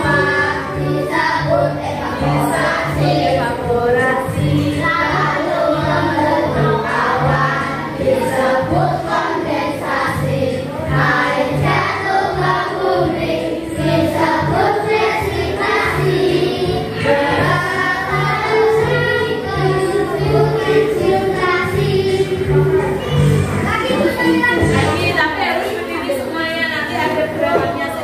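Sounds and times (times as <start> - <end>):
group of voices singing: 0.0 - 25.1.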